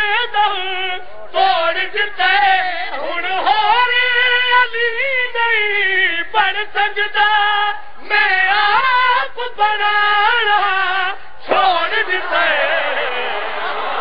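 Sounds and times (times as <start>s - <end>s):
man chanting: 0.0s - 13.4s.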